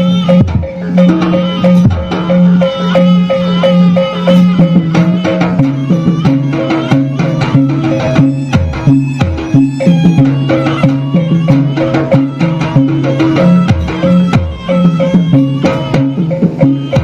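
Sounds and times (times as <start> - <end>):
hand drum strokes: 0.0 - 17.0
struck metal percussion: 0.0 - 17.0.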